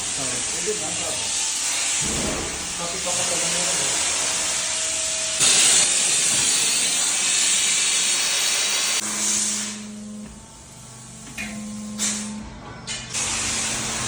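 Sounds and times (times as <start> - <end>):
pressurized air hissing: 0.0 - 10.2, 11.4 - 12.4, 13.1 - 14.0.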